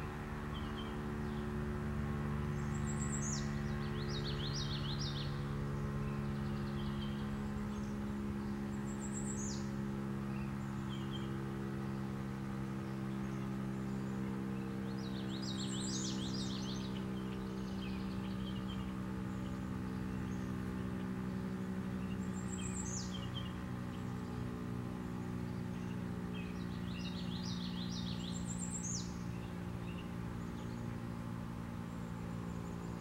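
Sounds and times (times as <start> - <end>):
small birds chirping: 0.0 - 33.0
steady low drone: 0.0 - 33.0.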